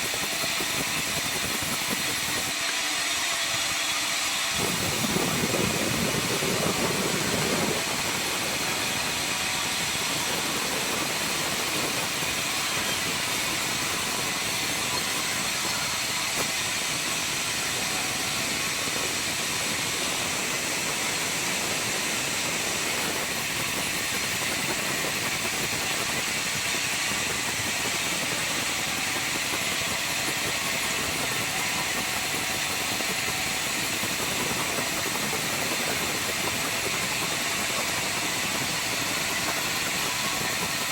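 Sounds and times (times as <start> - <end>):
sawmill machine running: 0.0 - 40.9.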